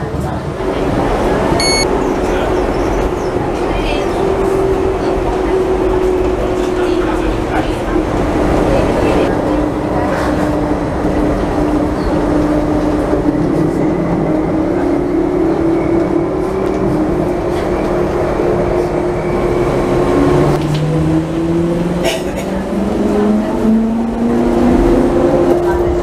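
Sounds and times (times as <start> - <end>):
wheels rumbling on rail: 0.0 - 26.0
tram motor whine: 0.6 - 21.6.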